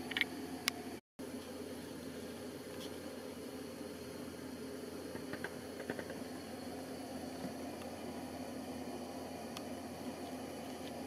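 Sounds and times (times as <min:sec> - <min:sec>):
room tone hiss: 0:00.0 - 0:11.0.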